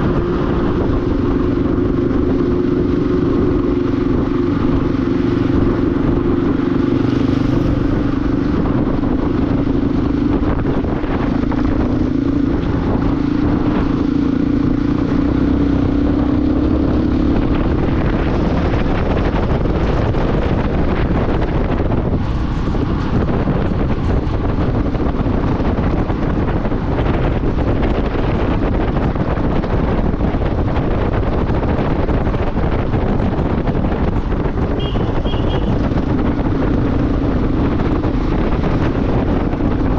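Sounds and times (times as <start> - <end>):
motorcycle engine: 0.0 - 39.9
wind noise on microphone: 0.0 - 39.9.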